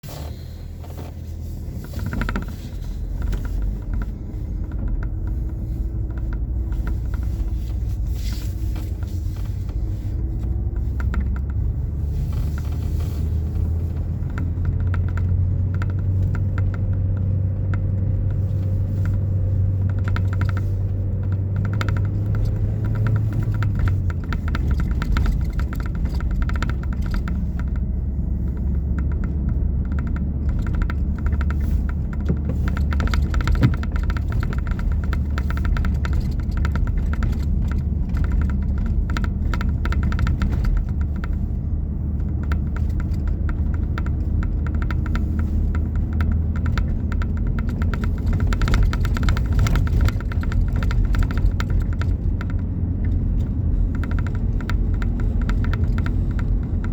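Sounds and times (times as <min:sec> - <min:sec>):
vehicle engine rumble: 0:00.0 - 0:56.9
small crackling clicks: 0:01.4 - 0:56.9.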